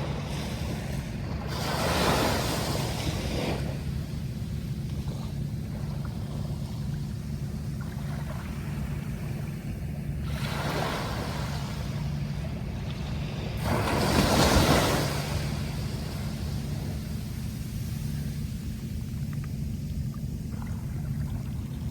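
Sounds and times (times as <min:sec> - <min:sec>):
sea waves washing in: 0:00.0 - 0:21.9
steady low rumble: 0:00.0 - 0:21.9.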